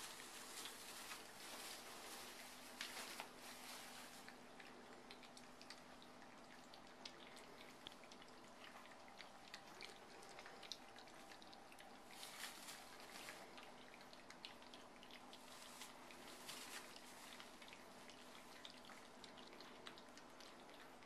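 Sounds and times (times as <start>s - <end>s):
puppies lapping food: 0.0s - 21.0s.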